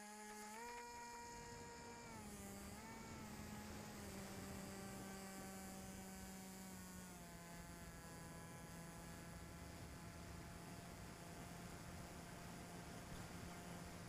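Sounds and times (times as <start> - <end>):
model plane motor and propeller hum: 0.0 - 14.0.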